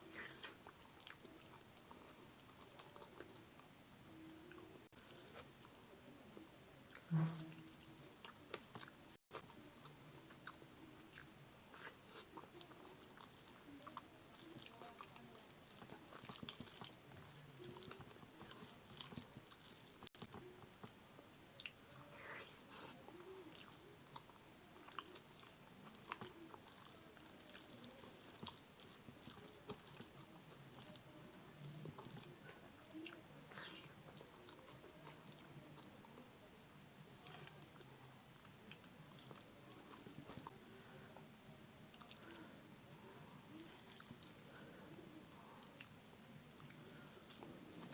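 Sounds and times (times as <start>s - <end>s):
person chewing: 0.0s - 3.7s, 4.4s - 35.9s, 37.2s - 40.8s, 41.9s - 47.9s.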